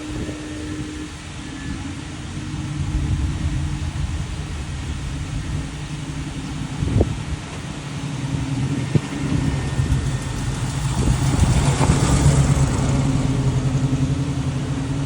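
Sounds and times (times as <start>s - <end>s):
fire truck engine droning: 0.0s - 15.0s.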